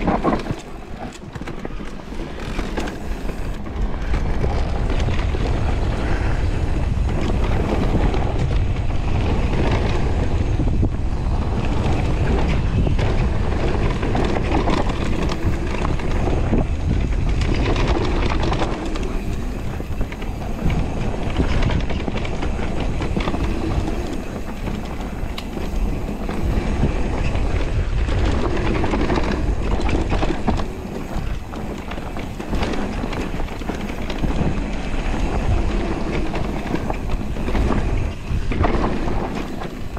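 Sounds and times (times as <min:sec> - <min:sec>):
bike tyres rumbling on dirt: 0:00.0 - 0:39.9
wind on microphone: 0:00.0 - 0:39.9.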